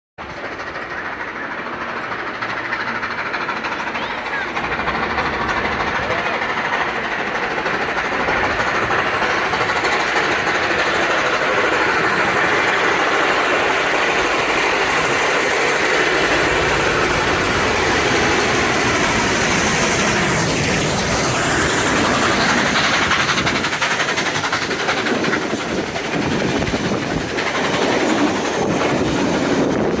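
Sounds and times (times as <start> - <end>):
steam train running on track: 0.2 - 30.0.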